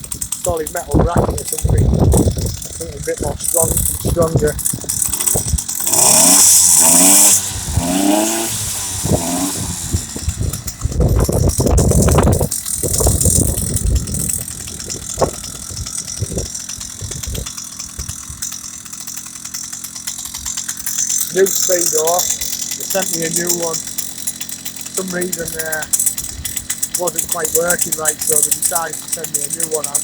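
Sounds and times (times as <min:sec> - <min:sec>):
rattling and clattering: 0:00.0 - 0:06.8, 0:09.0 - 0:30.0
two-stroke engine revving: 0:00.0 - 0:30.0.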